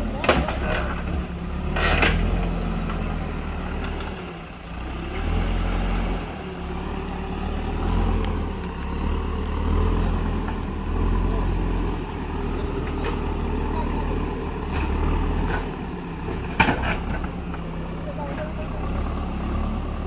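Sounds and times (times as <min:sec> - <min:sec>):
heavy diesel machinery engine: 0:00.0 - 0:20.0.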